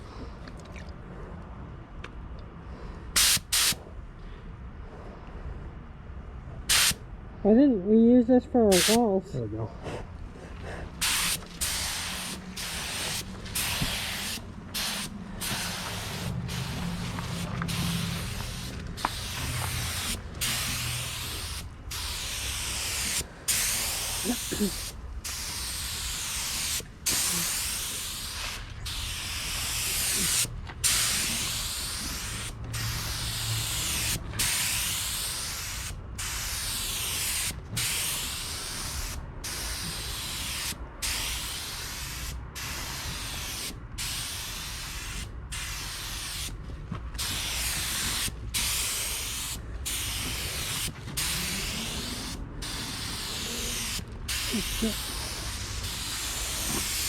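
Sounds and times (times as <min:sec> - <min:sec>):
spray gun hissing: 0:03.2 - 0:03.8, 0:06.7 - 0:07.0, 0:08.7 - 0:09.0, 0:11.0 - 0:46.5, 0:47.2 - 0:57.0.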